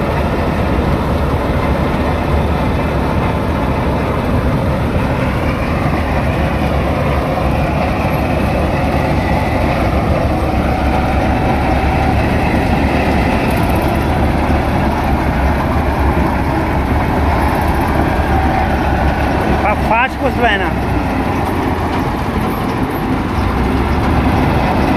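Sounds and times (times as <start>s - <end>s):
combine harvester droning: 0.0s - 24.9s.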